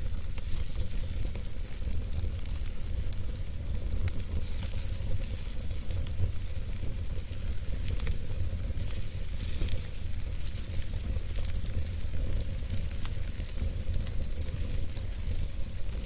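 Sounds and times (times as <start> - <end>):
fire crackles and pops: 0.0 - 16.0
wood fire burning: 0.0 - 16.0.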